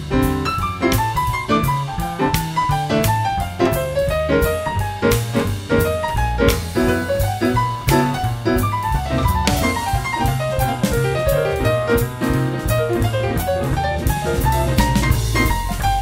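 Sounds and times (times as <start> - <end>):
jazz music with piano and drums: 0.0 - 16.0.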